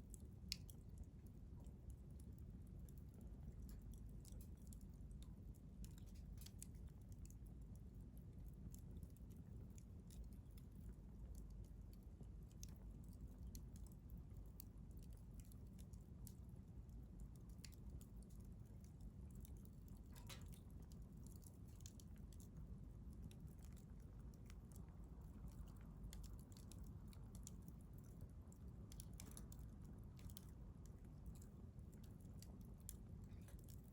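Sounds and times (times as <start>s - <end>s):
low steady rumble: 0.0s - 33.9s
wood fire crackling: 0.0s - 33.9s.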